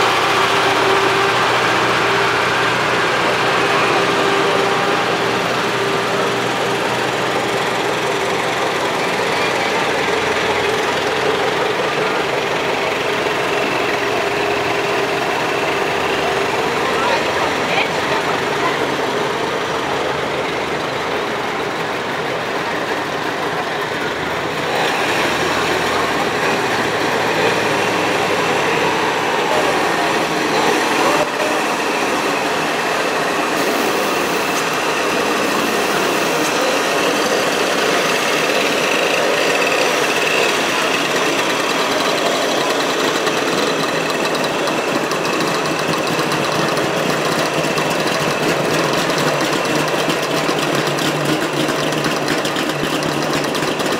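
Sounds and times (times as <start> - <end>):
old lorry engine: 0.0 - 53.9
two-stroke car engine: 0.0 - 53.9.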